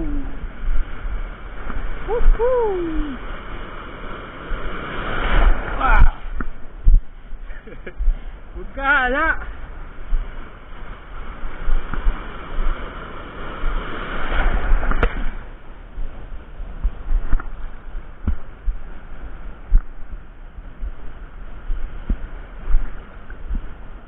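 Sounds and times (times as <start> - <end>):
low rumble on microphone: 0.0 - 24.0
sea surf sloshing: 0.0 - 24.0.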